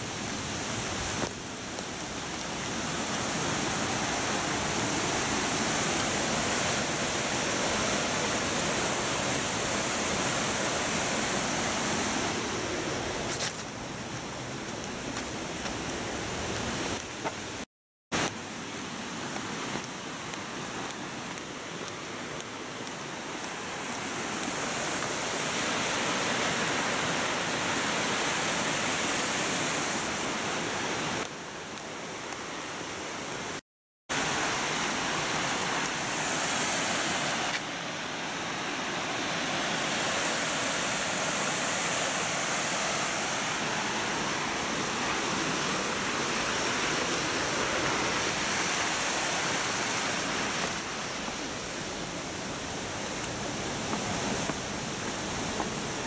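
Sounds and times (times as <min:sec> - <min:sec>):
rushing waterfall and stream: 0:00.0 - 0:56.0.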